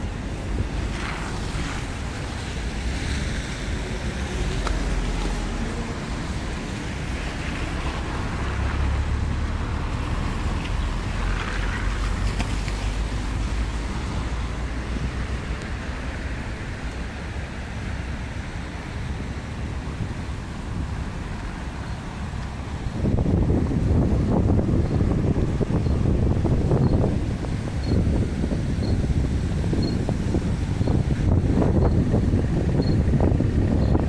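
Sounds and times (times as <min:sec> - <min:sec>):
city street ambience hiss: 0:00.0 - 0:34.0
wind buffeting microphone: 0:00.0 - 0:34.0.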